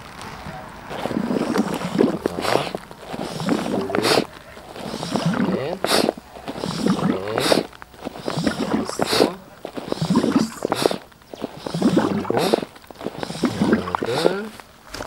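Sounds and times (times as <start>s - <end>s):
foot pump squeaky air strokes: 0.9s - 14.7s.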